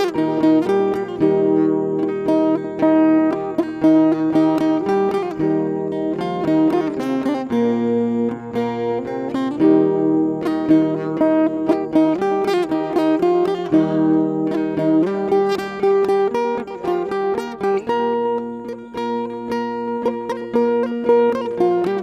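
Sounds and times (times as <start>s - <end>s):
plucked acoustic guitar: 0.0s - 22.0s.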